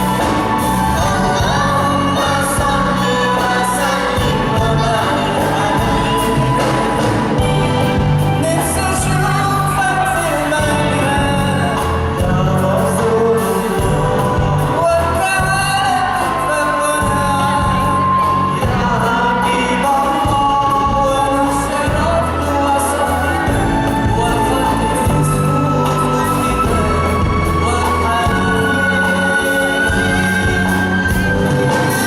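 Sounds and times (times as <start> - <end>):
live band music: 0.0 - 32.0
steady bass line: 0.0 - 32.0.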